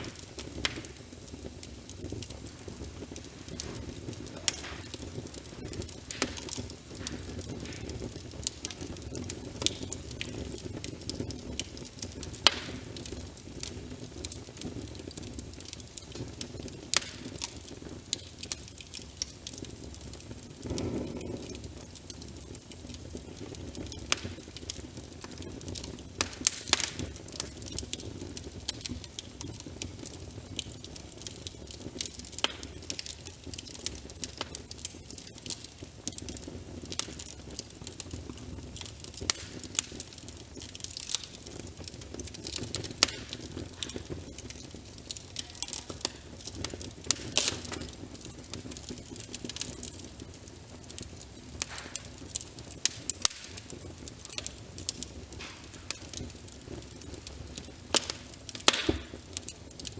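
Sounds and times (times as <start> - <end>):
fireplace fire crackling: 0.0 - 59.9
rain pattering on window: 0.0 - 59.9.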